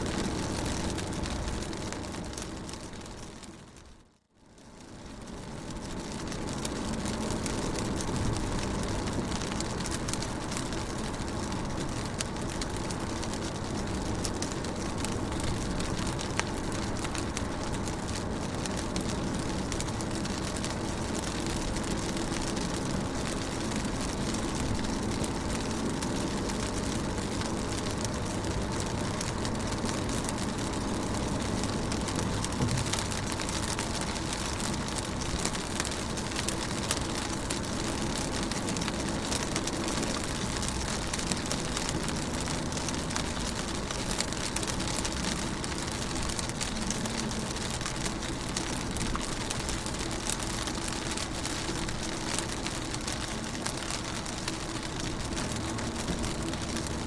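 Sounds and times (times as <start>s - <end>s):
rain falling on a car: 0.0s - 57.0s.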